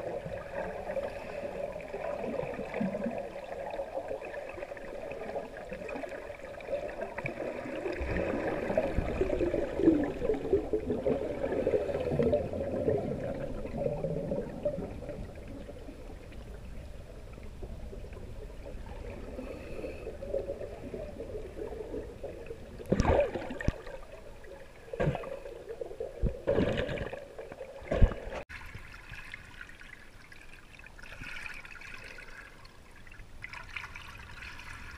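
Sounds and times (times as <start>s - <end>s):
muffled underwater water sloshing: 0.0s - 34.9s.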